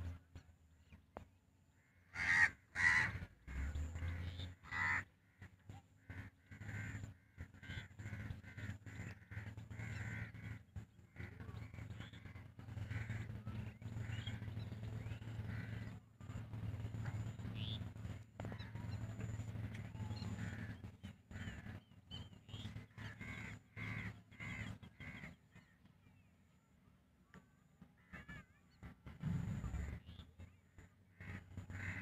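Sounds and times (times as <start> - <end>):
birds calling: 0.0 - 26.3, 27.9 - 32.0
steady low hum: 0.0 - 32.0.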